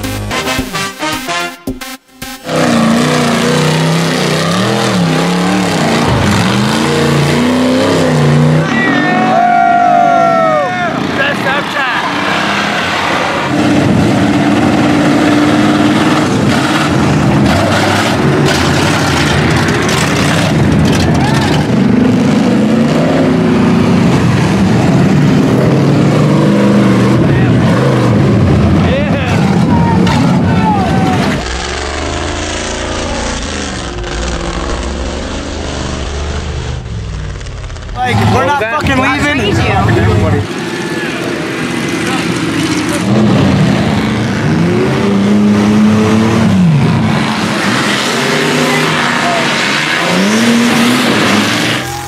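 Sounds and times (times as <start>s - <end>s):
truck engine running loudly: 0.0s - 52.0s
tires spinning and spraying dirt: 2.2s - 52.0s.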